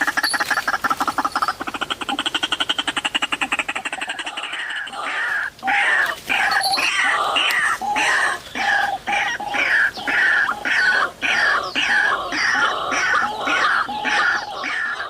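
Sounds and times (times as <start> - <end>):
waterhen harsh croaking calls: 0.0 - 15.0.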